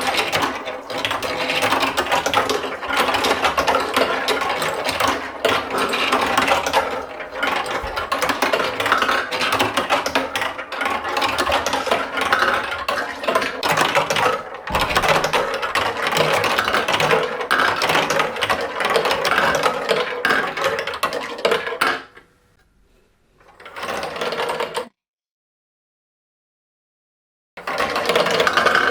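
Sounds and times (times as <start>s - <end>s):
marbles clattering on plastic track: 0.0s - 22.2s, 23.5s - 24.9s, 27.6s - 28.9s.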